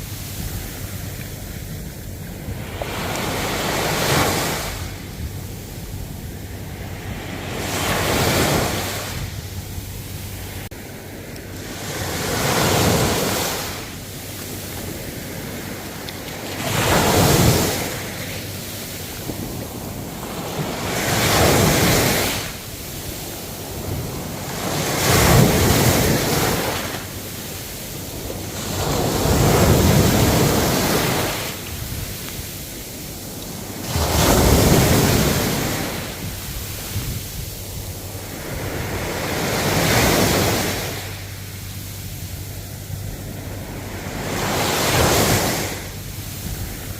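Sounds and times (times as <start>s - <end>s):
ocean waves rushing: 0.0s - 46.9s.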